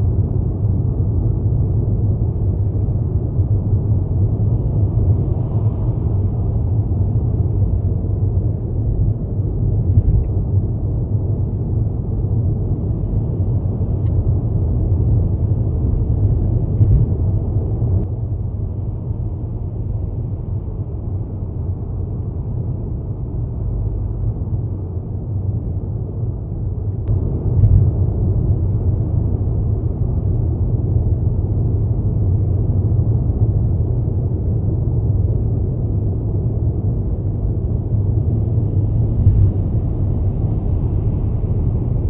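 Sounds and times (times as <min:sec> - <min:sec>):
car driving on street: 0:00.0 - 0:42.0.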